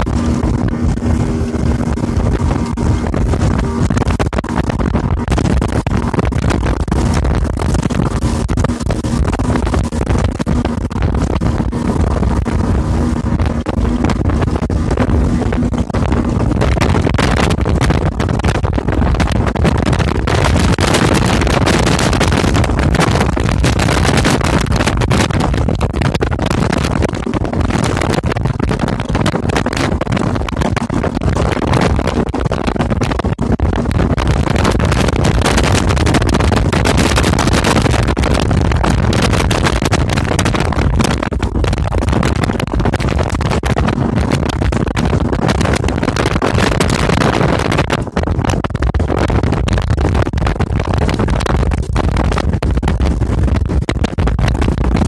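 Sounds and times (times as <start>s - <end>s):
outboard motor running: 0.0s - 55.0s
wind buffeting microphone: 0.0s - 55.0s.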